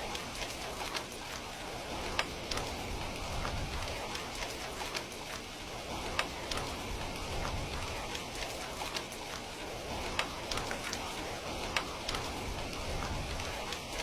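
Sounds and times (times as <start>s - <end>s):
steady rain hiss: 0.0s - 14.0s
wood fire crackling: 0.0s - 14.0s.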